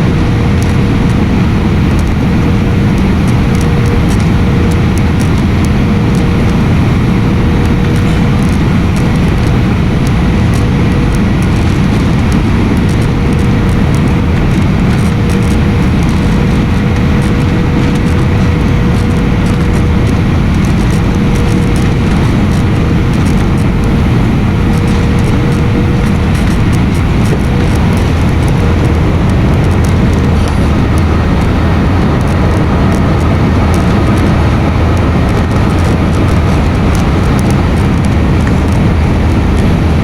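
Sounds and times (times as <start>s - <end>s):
jet cabin engine roar: 0.0s - 40.0s.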